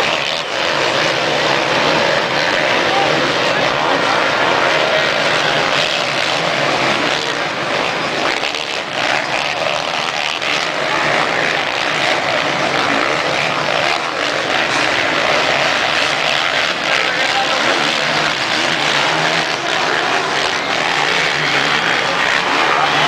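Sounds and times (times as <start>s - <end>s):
motocross bike engines buzzing: 0.0s - 23.0s.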